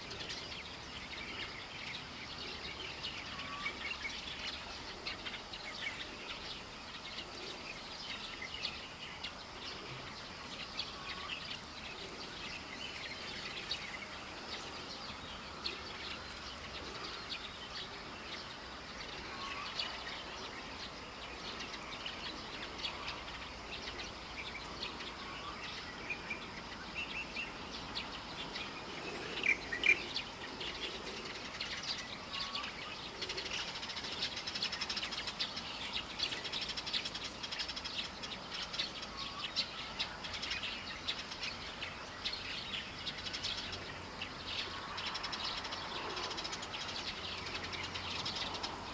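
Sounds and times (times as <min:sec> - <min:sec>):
birds chirping and calling: 0:00.0 - 0:48.9.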